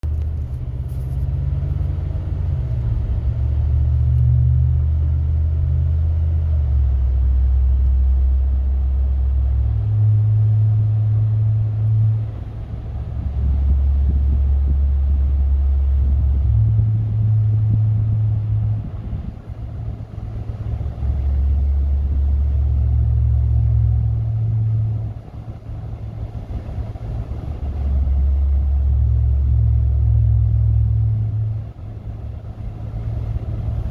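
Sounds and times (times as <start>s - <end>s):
low droning truck hum: 0.0s - 33.9s.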